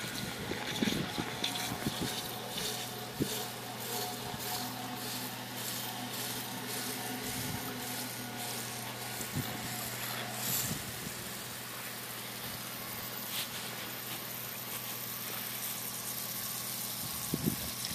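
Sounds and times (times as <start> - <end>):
drilling rig engine humming: 0.0 - 17.9
pressurised fluid jets hissing: 0.0 - 17.9.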